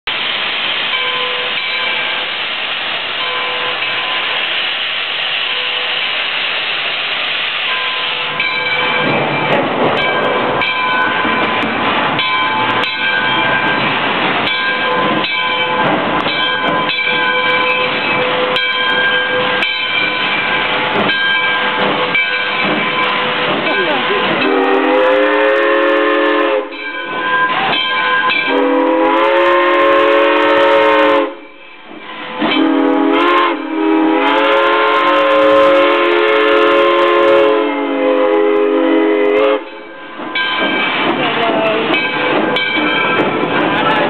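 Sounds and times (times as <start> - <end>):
steam locomotive hissing: 0.1 - 44.0.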